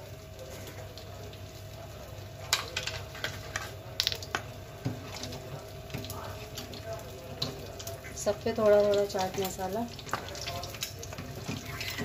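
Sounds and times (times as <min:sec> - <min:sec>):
spice sprinkled on plastic plates: 0:02.0 - 0:12.0.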